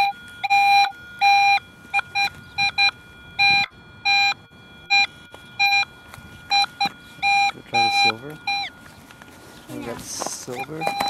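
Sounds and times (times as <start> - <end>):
metal detector beeps: 0.0 - 11.0.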